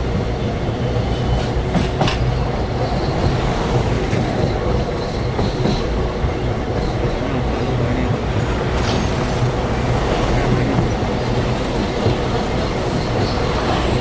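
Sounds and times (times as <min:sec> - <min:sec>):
train low rumble: 0:00.0 - 0:14.0
wheels clacking over rail joints: 0:01.1 - 0:14.0.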